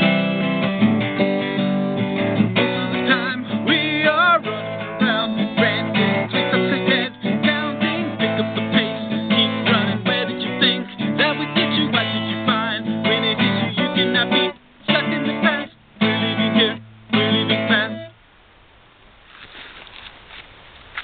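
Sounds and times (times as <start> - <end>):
acoustic guitar strumming: 0.0 - 18.3.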